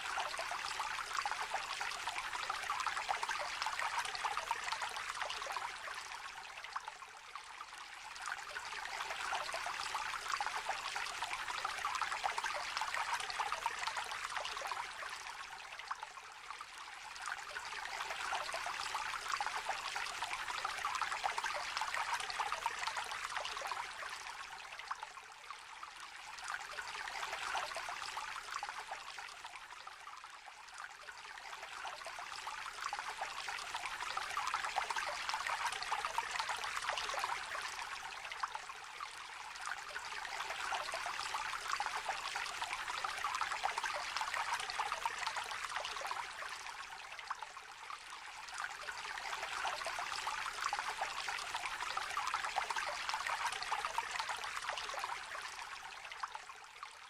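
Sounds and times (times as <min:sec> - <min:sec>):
small stream babbling: 0:00.0 - 0:57.0.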